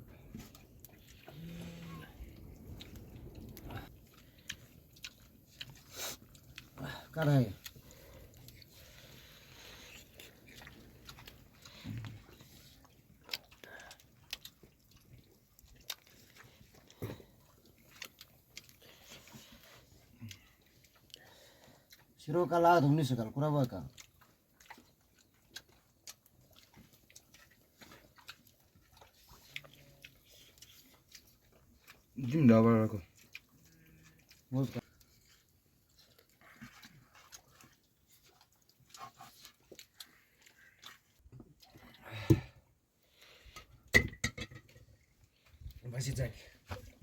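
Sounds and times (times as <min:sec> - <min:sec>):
chewing and crunching: 0:00.0 - 0:47.0.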